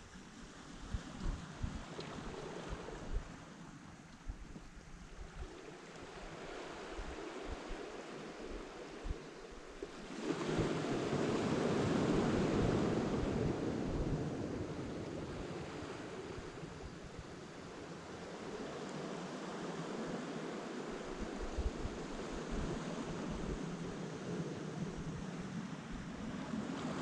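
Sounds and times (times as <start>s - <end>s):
wind buffeting microphone: 0.0s - 3.4s, 4.2s - 17.9s, 20.8s - 27.0s.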